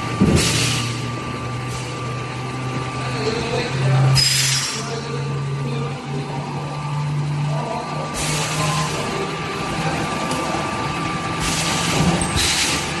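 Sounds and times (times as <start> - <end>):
packaging machine humming: 0.0 - 13.0.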